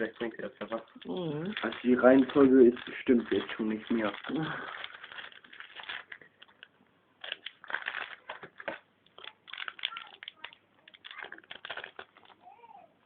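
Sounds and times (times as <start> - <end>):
foil wrapper and cards crinkling: 0.0 - 12.7.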